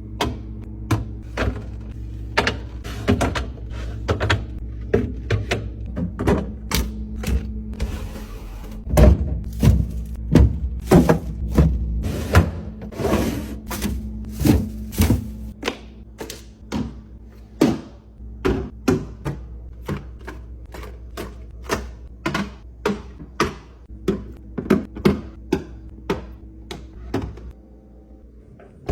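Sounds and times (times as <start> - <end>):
containers clicking and knocking on shelves: 0.1 - 7.6, 8.8 - 27.5.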